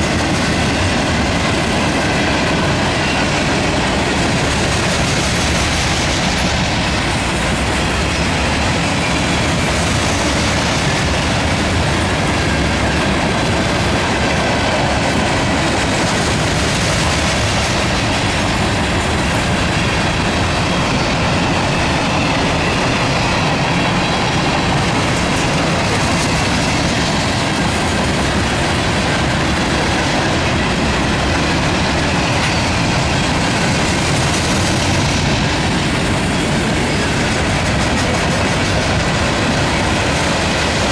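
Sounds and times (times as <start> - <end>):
freight train wheels on rails: 0.0 - 40.9.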